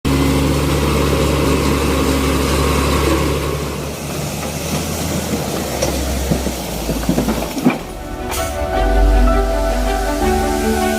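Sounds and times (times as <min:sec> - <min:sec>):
heavy diesel engine running: 0:00.1 - 0:10.9.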